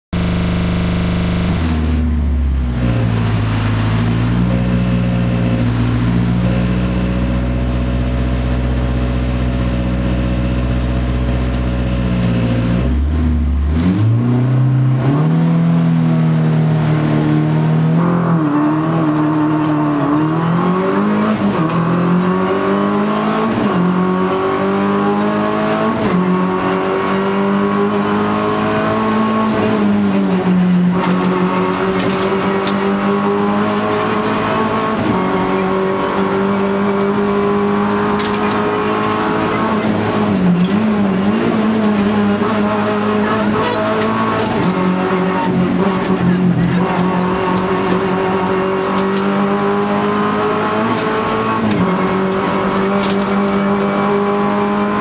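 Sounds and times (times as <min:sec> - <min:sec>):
rally car engine accelerating: 0:00.1 - 0:55.0.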